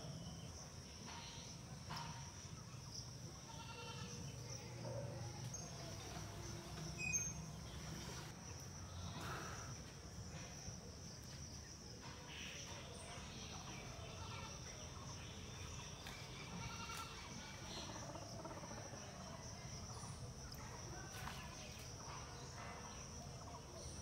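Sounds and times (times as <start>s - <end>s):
high insect trill: 0.0s - 24.0s.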